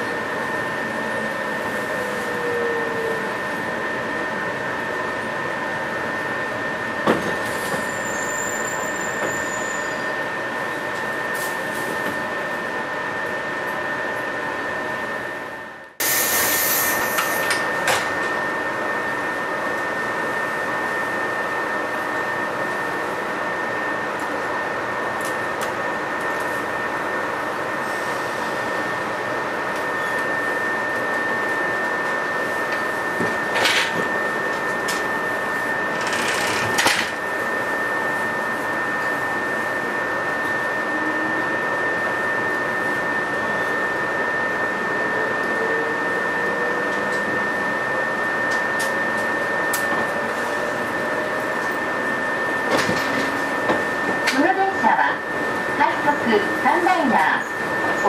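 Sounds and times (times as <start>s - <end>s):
train wheels and motors rumbling: 0.0s - 58.0s.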